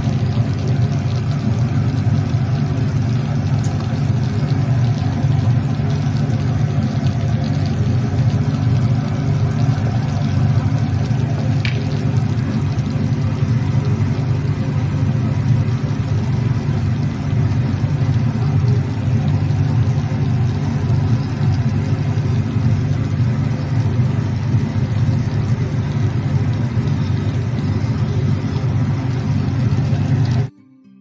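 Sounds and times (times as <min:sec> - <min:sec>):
loud low rumble: 0:00.0 - 0:30.5.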